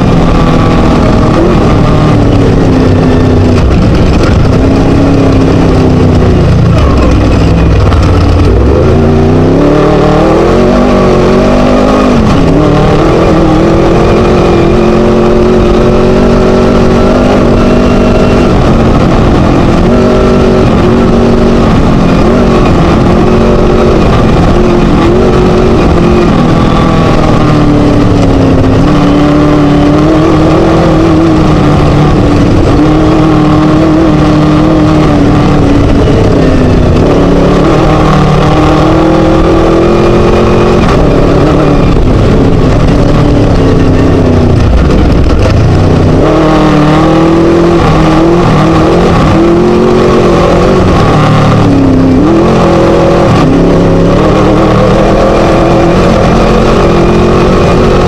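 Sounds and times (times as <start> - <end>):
race buggy engine revving: 0.0 - 58.0.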